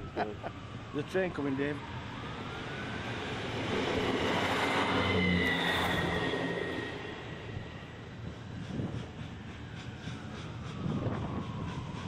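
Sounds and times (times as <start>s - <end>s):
passenger train passing: 1.8s - 12.0s.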